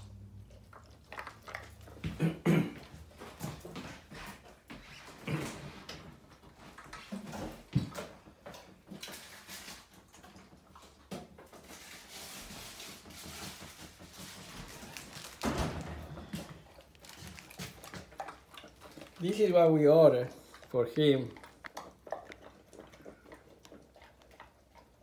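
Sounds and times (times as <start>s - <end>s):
dog eating from metal bowl: 0.0s - 2.2s, 6.1s - 15.2s, 15.8s - 25.0s.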